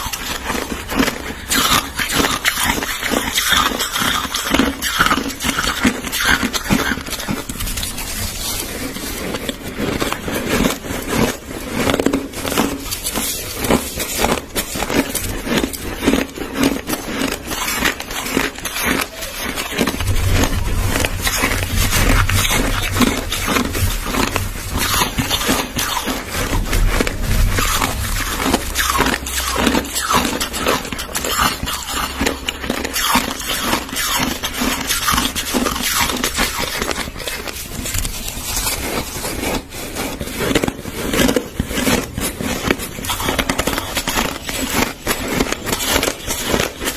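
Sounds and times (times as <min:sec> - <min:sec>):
chewing crushed ice: 0:00.0 - 0:46.9.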